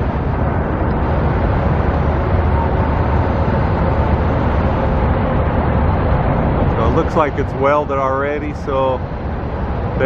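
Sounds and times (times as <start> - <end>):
faint constant whine: 0.0 - 10.0
low vehicle rumble: 0.0 - 10.0.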